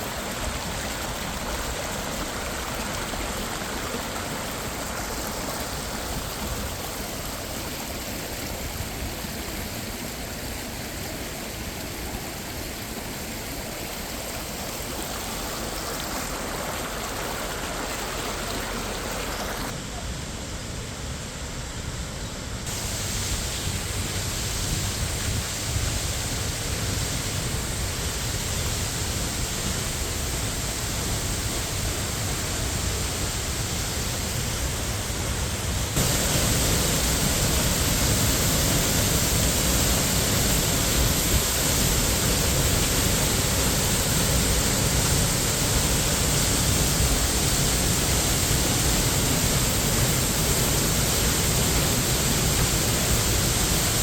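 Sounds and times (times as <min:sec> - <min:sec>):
rushing water of waterfall: 0:00.0 - 0:54.0.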